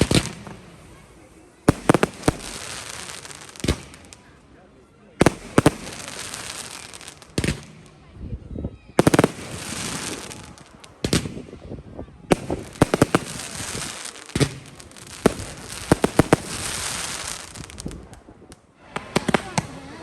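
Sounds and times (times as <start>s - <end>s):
fireworks bangs: 0.0s - 4.4s, 5.2s - 8.0s, 9.0s - 18.2s
fireworks crackling: 0.0s - 8.1s, 9.0s - 20.0s.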